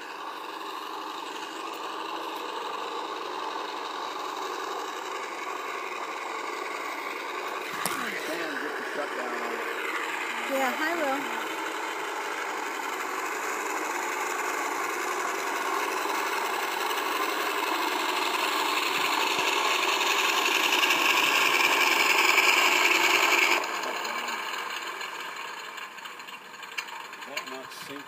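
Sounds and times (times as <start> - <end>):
model plane engine sound playback: 0.0 - 28.0
propeller whirring: 0.0 - 28.0.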